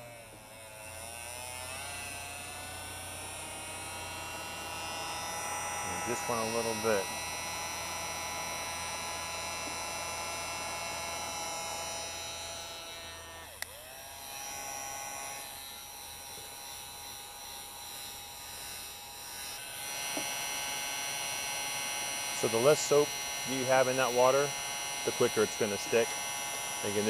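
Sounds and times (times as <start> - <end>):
heat gun fan humming: 0.0 - 27.0.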